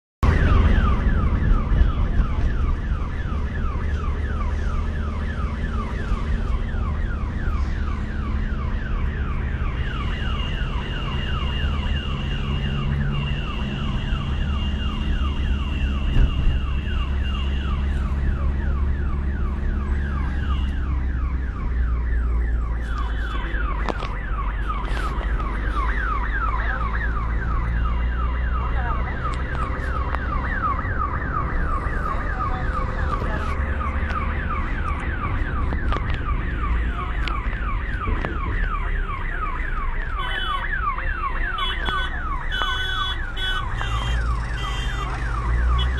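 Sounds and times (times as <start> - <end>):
ambulance siren yelping: 0.2 - 45.9
engine and road rumble: 0.2 - 45.9.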